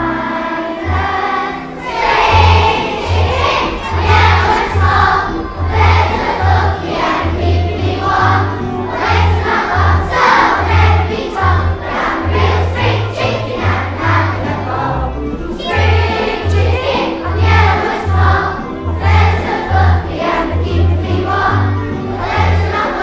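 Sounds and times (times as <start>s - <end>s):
children singing: 0.0s - 23.0s
musical accompaniment with bass line: 0.0s - 23.0s.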